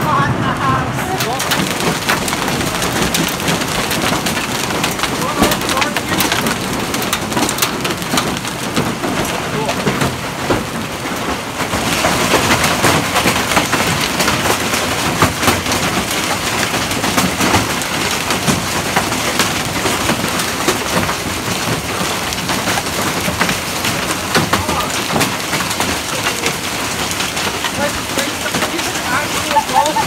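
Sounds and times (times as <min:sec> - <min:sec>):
hailstones pelting down: 0:00.1 - 0:30.0.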